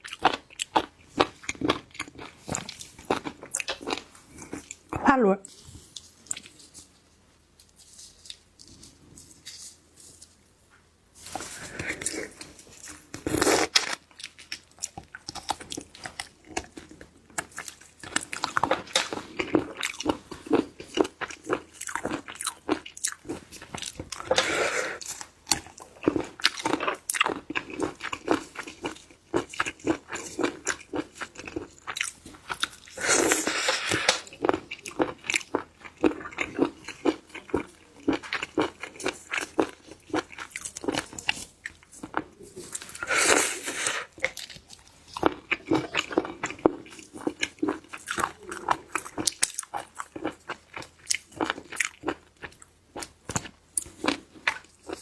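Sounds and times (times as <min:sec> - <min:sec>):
crunching and chewing food: 0:00.0 - 0:55.0.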